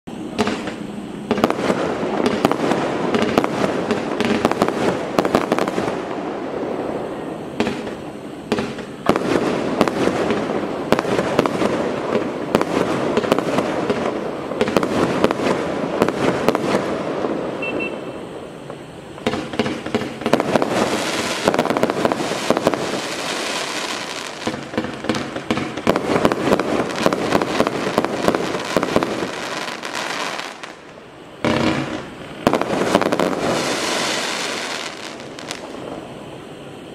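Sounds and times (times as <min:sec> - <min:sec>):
fireworks launching and bursting: 0:00.0 - 0:36.9.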